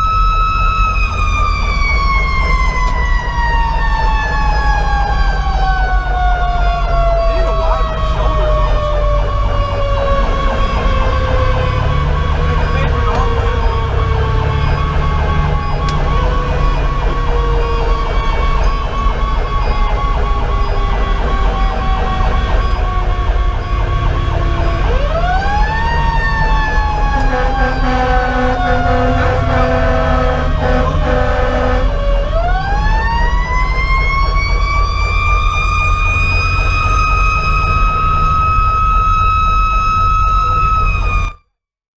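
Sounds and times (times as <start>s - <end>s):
diesel engine rumbling: 0.0s - 41.3s
electronic siren yelping: 0.0s - 41.4s.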